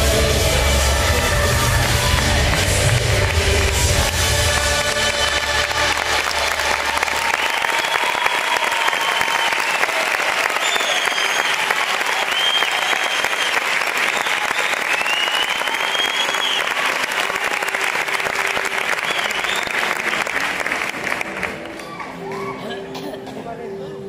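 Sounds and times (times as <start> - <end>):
audience applauding: 0.0 - 22.5.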